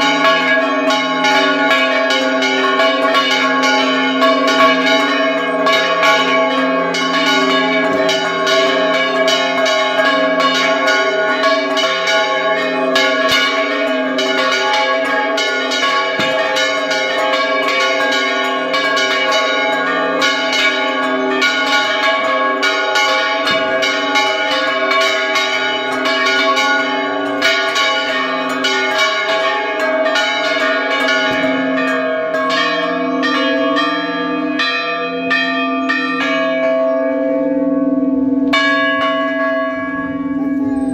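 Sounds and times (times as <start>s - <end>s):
church bells ringing rapidly: 0.0s - 40.9s.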